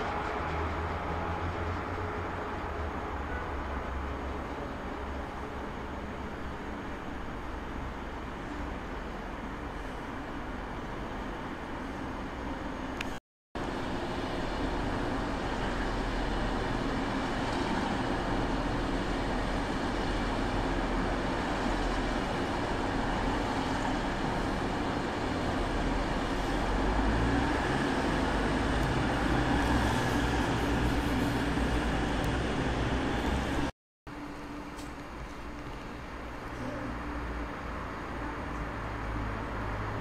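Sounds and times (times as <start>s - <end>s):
train ventilation fans humming: 0.0s - 39.9s.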